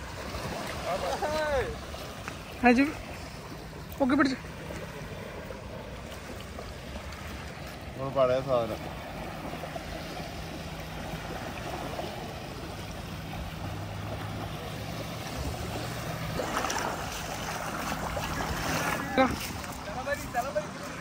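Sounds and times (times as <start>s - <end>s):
surf on pebble beach: 0.0s - 21.0s
water swirling around feet: 0.0s - 21.0s.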